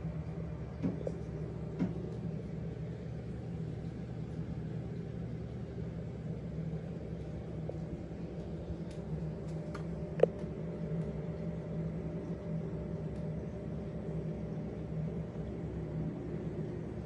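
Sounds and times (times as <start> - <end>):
aquarium pumps humming: 0.0 - 17.0.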